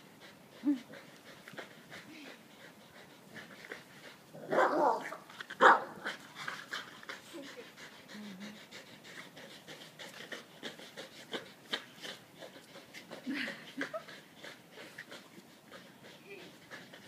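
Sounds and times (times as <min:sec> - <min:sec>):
dogs panting: 0:00.0 - 0:17.0.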